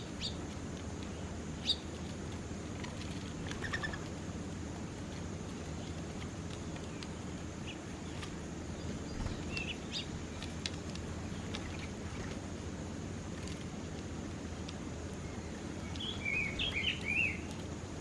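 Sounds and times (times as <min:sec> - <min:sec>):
small birds chirping: 0:00.0 - 0:12.7, 0:13.4 - 0:18.0
low background rumble: 0:00.0 - 0:18.0.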